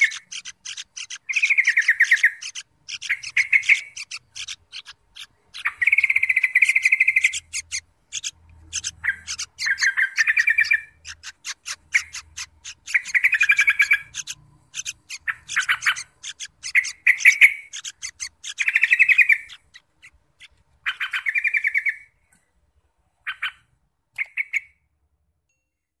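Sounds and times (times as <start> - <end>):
bird ticking notes: 0.0 - 21.9
birds' buzzy rasping calls: 0.0 - 22.1.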